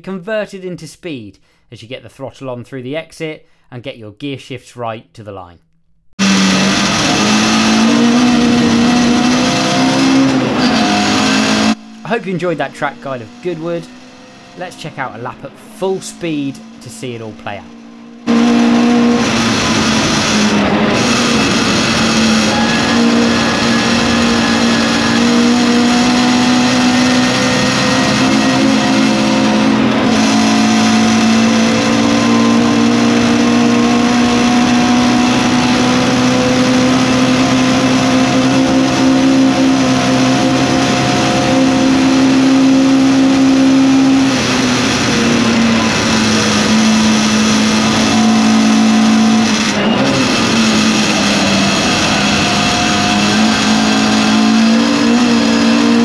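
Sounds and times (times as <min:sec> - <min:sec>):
racing car engine at full throttle: 0:06.2 - 0:56.0.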